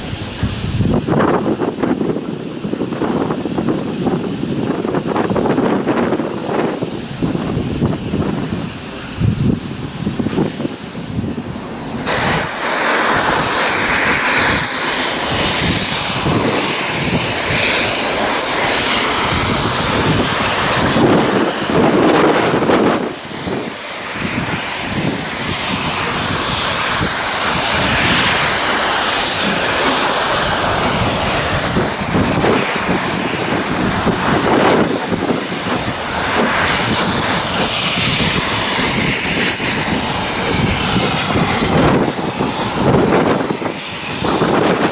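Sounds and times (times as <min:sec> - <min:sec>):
steam locomotive rush of steam: 0:00.0 - 0:44.9.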